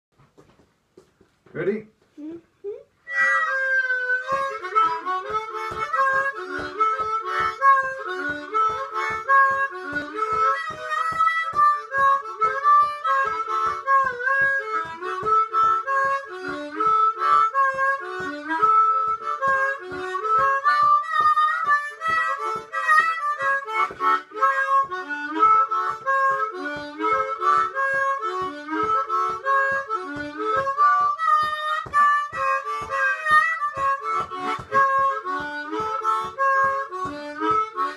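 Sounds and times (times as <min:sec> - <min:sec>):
harmonica boogie: 0:02.1 - 0:37.9.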